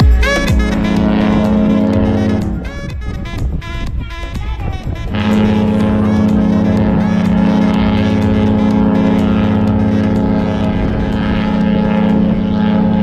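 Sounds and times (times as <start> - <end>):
ship horn blast: 0.0 - 13.0.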